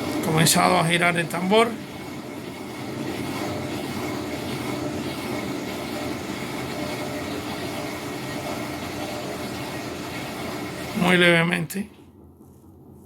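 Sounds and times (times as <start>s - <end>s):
washing machine drum spinning: 0.0s - 13.0s.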